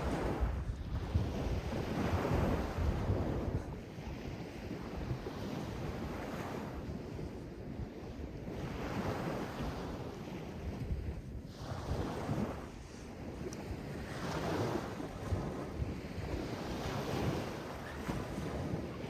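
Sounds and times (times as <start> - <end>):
sea waves washing in: 0.0 - 6.8, 8.6 - 19.0
wind rumbling on microphone: 0.0 - 19.0.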